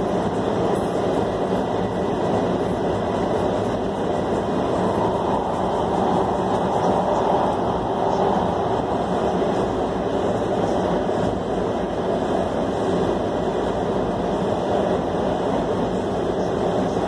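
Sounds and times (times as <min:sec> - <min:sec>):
subway train in tunnel: 0:00.0 - 0:17.0.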